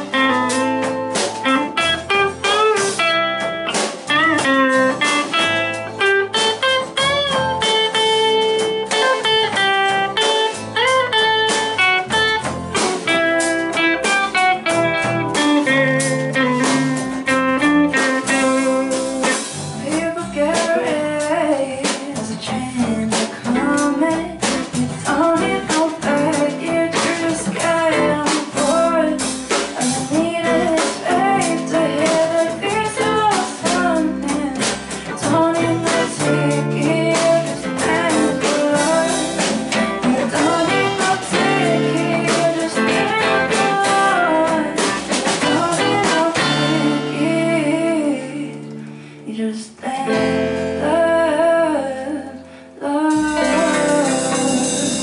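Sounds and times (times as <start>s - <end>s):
woman singing: 0.0s - 3.5s, 4.1s - 55.0s
live band playing soul: 0.0s - 51.2s, 52.6s - 55.0s.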